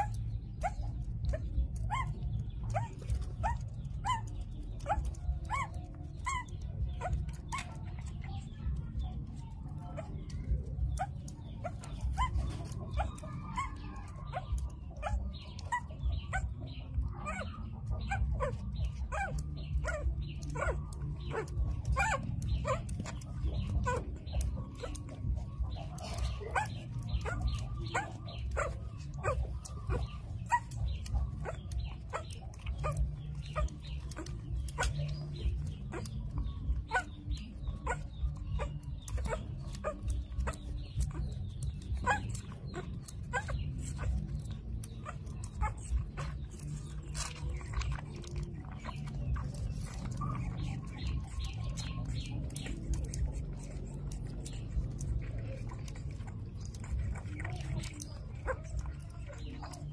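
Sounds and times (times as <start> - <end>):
puppies whining and yelping: 0.0 - 59.9.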